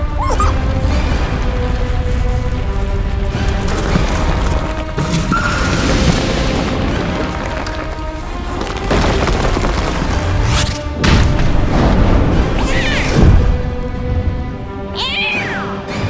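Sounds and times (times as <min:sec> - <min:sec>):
dramatic background music: 0:00.0 - 0:16.0.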